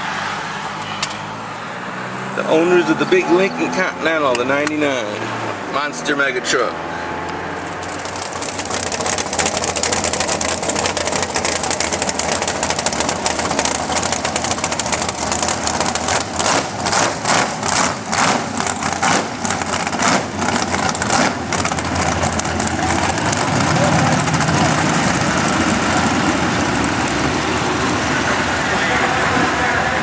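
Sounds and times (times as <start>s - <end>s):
road and wind noise: 0.0s - 30.0s
vehicle engine running: 0.0s - 30.0s.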